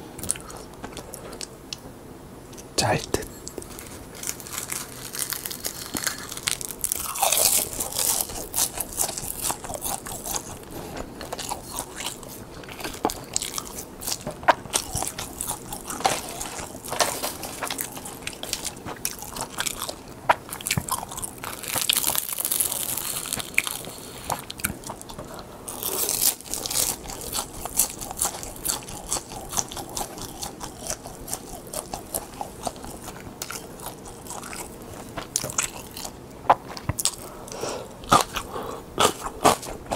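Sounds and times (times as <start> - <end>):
chewing crisp seaweed sheets: 2.6 - 39.9.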